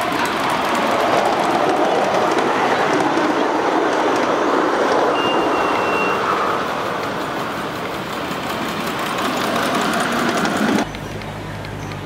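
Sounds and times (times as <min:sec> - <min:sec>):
steam locomotive running past: 0:00.0 - 0:11.0.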